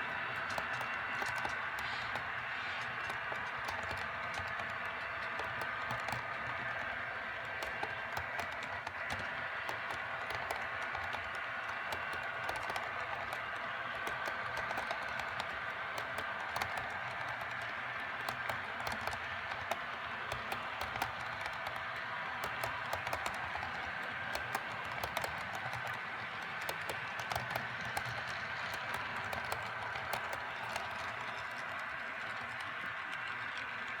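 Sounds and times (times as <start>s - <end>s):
model train clicking over track: 0.0s - 34.0s.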